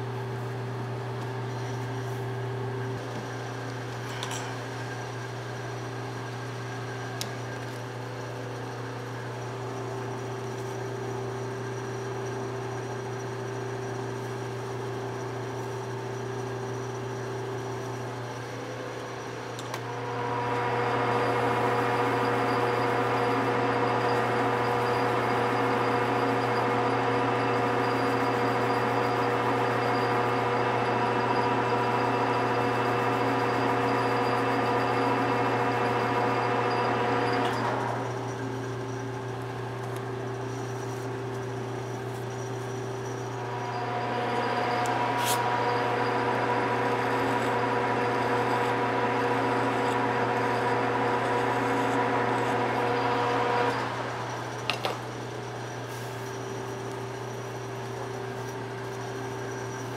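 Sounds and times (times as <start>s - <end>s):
machine humming: 0.0s - 59.9s
harsh machine working noise: 1.2s - 59.9s.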